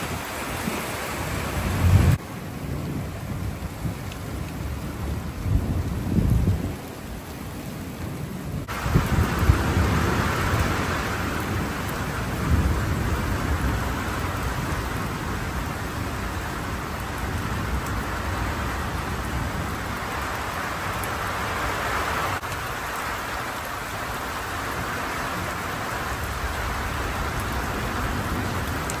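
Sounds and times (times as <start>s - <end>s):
heavy rain falling: 0.0s - 29.0s
thunder rumbling: 0.0s - 29.0s.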